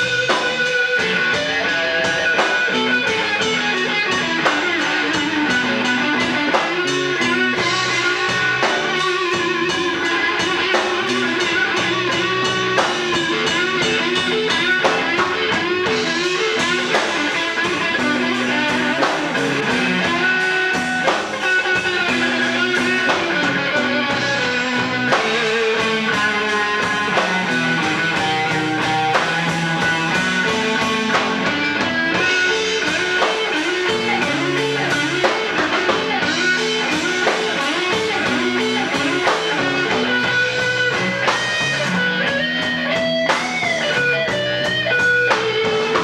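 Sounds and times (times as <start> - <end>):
bent electric guitar notes: 0.0 - 46.0
live band playing: 0.0 - 46.0.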